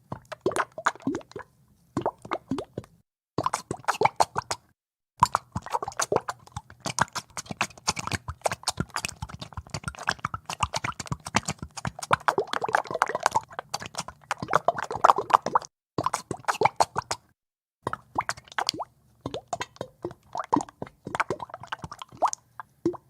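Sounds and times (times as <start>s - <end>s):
oil bubbling in water: 0.0s - 4.6s, 5.2s - 23.0s.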